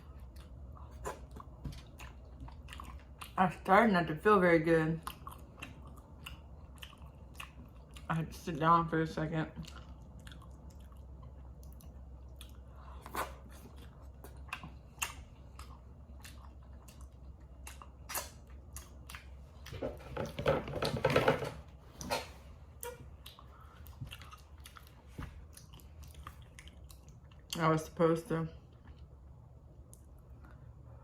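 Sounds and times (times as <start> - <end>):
person chewing food: 0.0 - 3.4, 5.0 - 8.1, 9.6 - 20.4, 21.9 - 27.6, 28.6 - 31.0.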